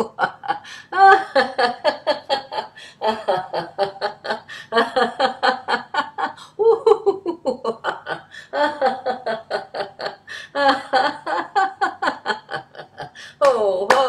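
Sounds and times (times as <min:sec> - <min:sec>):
woman laughing heartily: 0:00.0 - 0:14.0.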